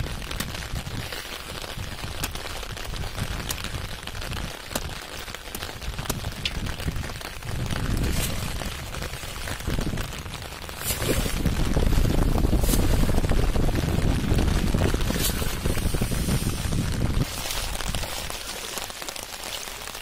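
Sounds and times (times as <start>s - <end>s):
raindrops ticking close by: 0.0s - 20.0s
steady rain falling: 0.0s - 20.0s.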